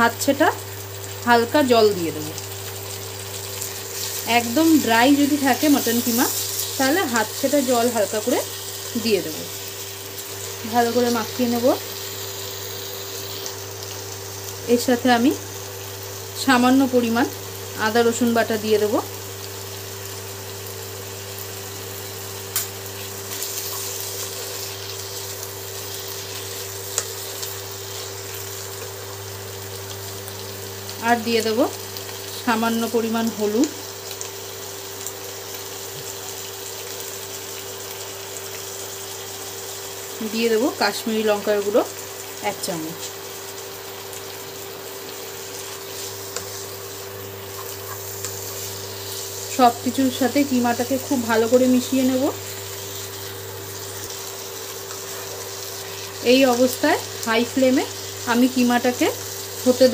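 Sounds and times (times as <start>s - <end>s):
cooktop humming: 0.0s - 59.9s
meat and onions sizzling: 0.0s - 59.9s.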